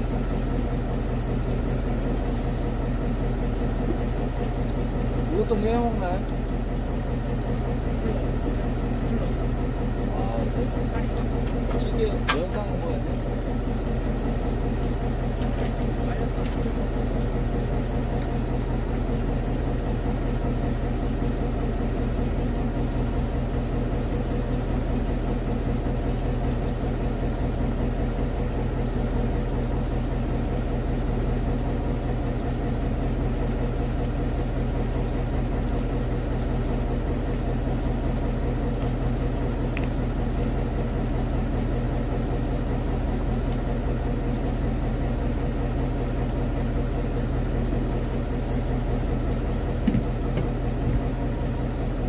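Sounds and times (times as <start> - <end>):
boat engine idling: 0.0 - 52.0.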